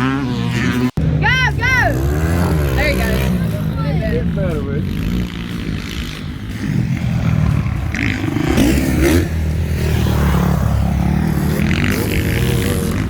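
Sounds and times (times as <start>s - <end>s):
dirt bike engines revving: 0.0s - 13.0s
steady low rumble: 1.0s - 13.0s.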